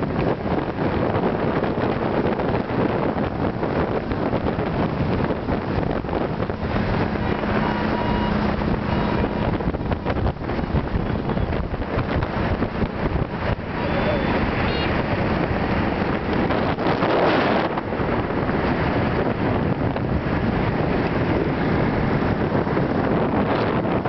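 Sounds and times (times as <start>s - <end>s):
motorbike road and engine noise: 0.0s - 24.0s
wind buffeting microphone: 0.0s - 24.0s.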